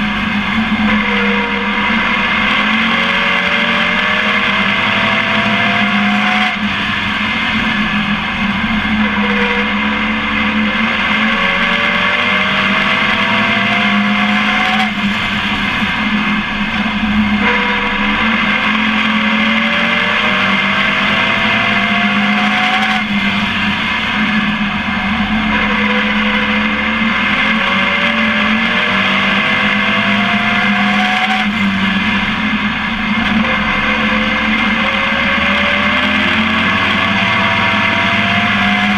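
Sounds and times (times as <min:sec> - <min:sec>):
race truck engine revving: 0:00.0 - 0:38.9
wind and road noise: 0:00.0 - 0:38.9.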